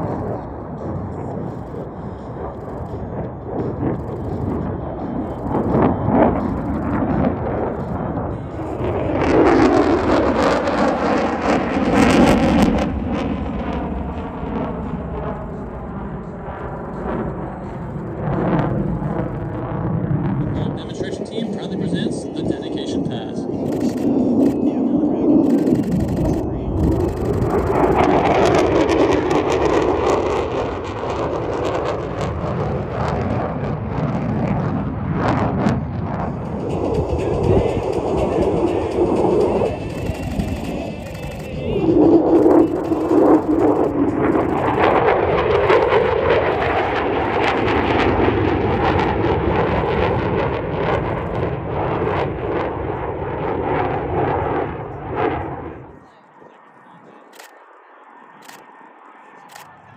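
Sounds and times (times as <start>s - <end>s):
fighter jet flying past: 0.0s - 59.9s.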